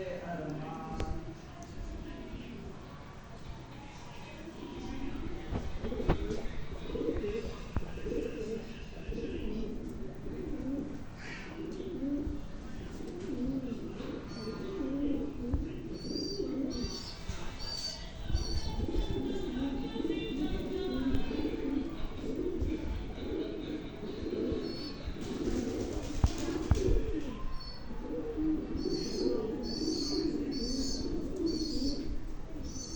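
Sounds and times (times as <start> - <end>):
pigeons cooing: 4.3 - 32.9.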